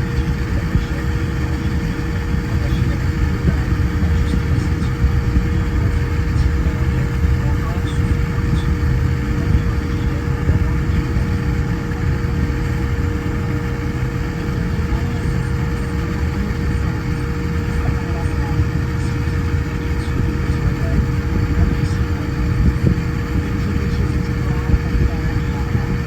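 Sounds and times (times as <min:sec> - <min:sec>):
airliner cabin rumble: 0:00.0 - 0:26.0
thin steady hum: 0:00.0 - 0:26.0.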